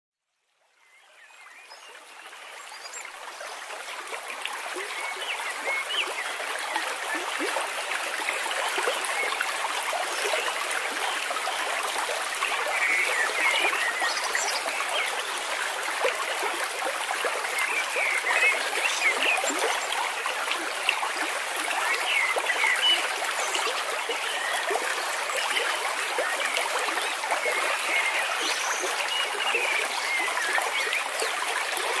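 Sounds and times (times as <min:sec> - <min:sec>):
stream trickling and gurgling: 0:00.3 - 0:32.0.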